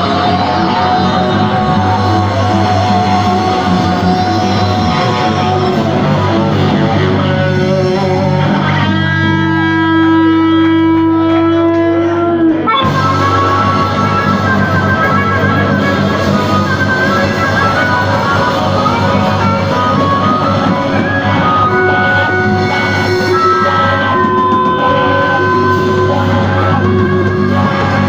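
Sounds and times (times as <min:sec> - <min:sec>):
blues-rock band playing: 0:00.0 - 0:28.0.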